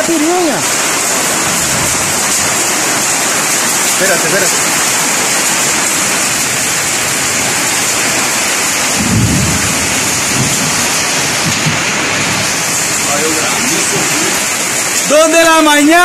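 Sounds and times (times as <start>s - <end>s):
heavy rain and hail: 0.0s - 16.0s.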